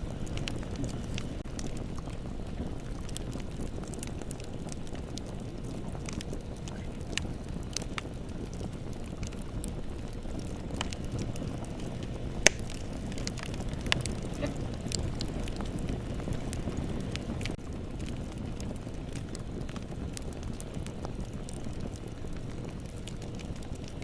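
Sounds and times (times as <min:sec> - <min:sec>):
fire crackles and pops: 0:00.0 - 0:24.0
low rumble of flames: 0:00.0 - 0:24.0.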